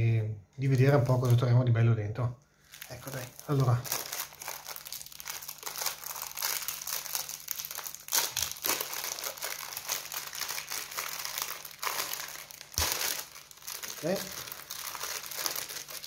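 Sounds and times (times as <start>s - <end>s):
plastic bag crinkling: 0.8s - 1.4s, 2.6s - 16.0s.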